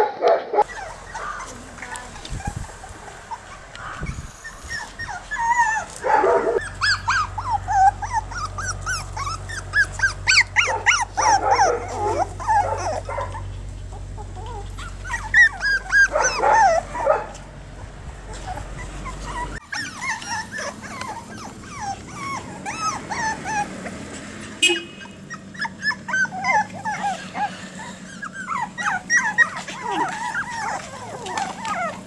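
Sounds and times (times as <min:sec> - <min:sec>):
puppies yipping and whining: 0:00.6 - 0:32.0.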